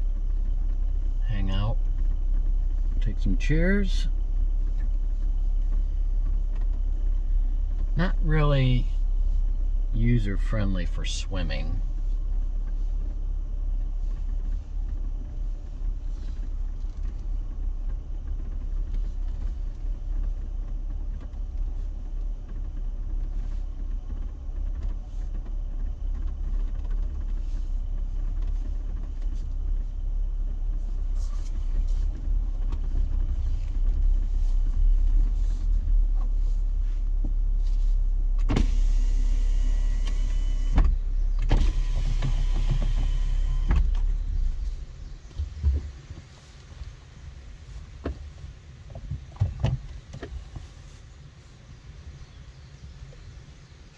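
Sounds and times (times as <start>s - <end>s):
engine and tyre rumble: 0.0s - 53.9s.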